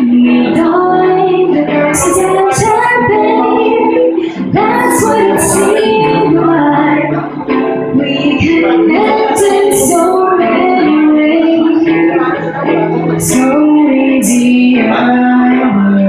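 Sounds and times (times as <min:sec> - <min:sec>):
acoustic guitar: 0:00.0 - 0:16.0
person singing: 0:00.0 - 0:16.0.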